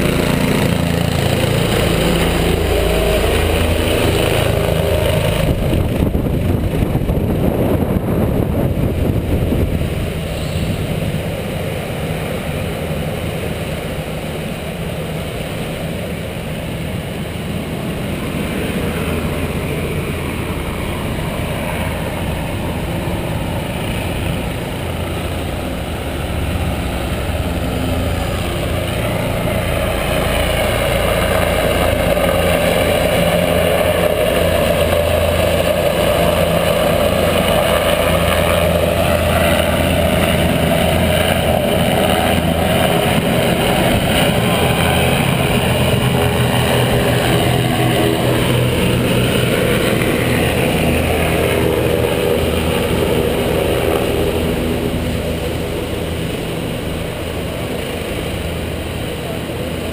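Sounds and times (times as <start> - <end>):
jet boat engine: 0.0 - 59.9.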